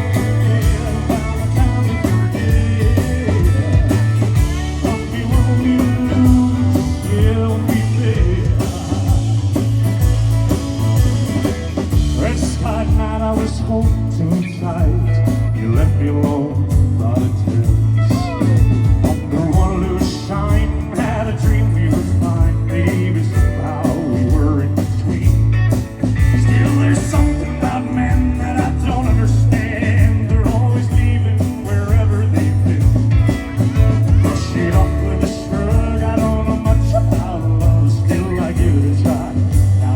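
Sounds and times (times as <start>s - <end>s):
country-rock band playing: 0.0s - 39.9s
guitar: 0.0s - 39.9s.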